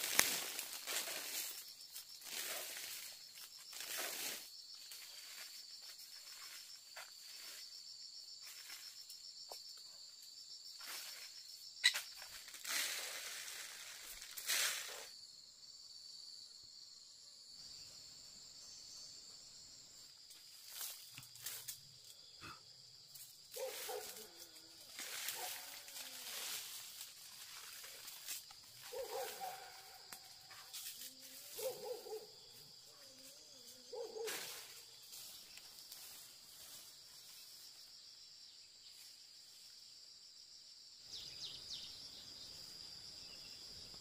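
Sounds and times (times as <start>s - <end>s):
insects chirping trill: 0.0s - 44.0s.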